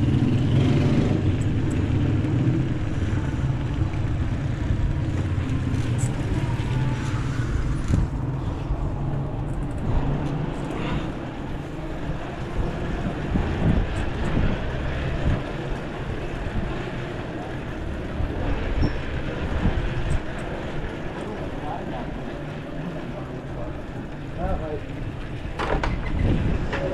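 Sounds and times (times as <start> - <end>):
wind rumble on microphone: 0.0 - 21.5, 24.8 - 26.9
street traffic: 0.0 - 26.9.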